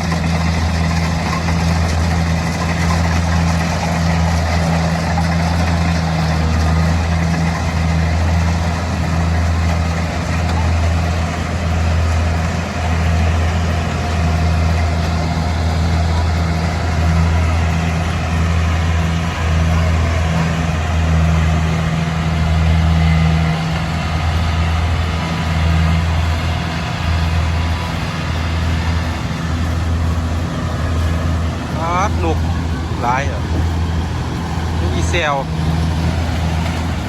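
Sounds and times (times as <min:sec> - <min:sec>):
combine harvester engine humming: 0:00.0 - 0:37.0.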